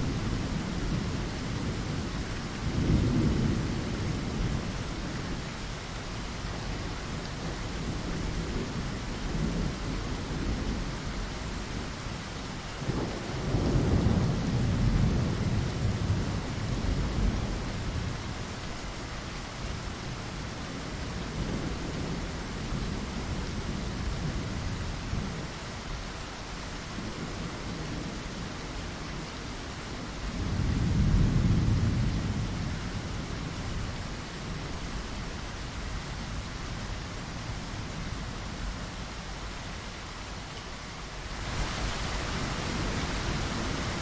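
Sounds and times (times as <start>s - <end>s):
low thunder rumbling: 0.0s - 5.7s, 6.5s - 18.6s, 20.7s - 25.5s, 26.9s - 38.9s, 41.4s - 44.0s
steady rain falling: 0.0s - 44.0s.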